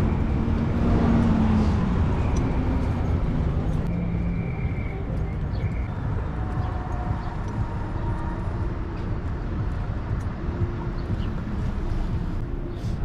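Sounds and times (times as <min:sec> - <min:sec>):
city background rumble: 0:00.0 - 0:13.0
passing traffic: 0:00.0 - 0:13.0.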